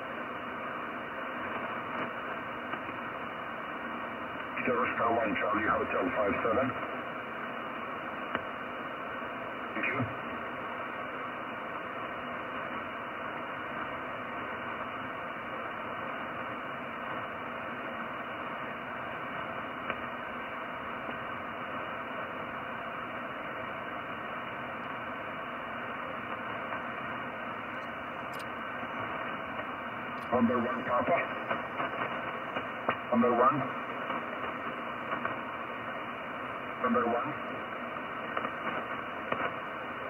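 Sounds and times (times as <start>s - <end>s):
radio band noise hiss: 0.0s - 40.0s.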